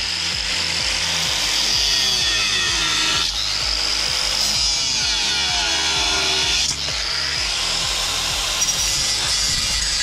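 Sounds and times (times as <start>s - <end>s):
angle grinder cutting metal tube: 0.0s - 10.0s.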